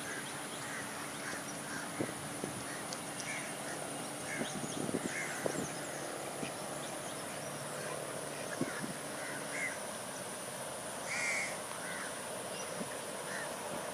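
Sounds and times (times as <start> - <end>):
birds making harsh calls: 0.0 - 9.9, 11.0 - 13.6
steady background hiss: 0.0 - 13.9.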